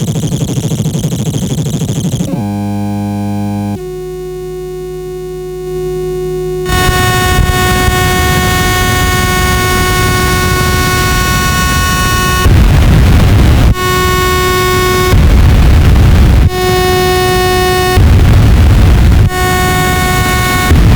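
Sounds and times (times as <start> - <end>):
glitch pedal droning: 0.0 - 20.9.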